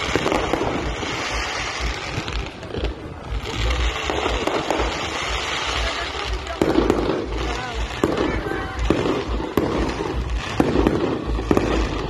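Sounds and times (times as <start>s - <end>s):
firework fountains rushing: 0.0s - 12.0s
wind buffeting microphone: 0.0s - 12.0s.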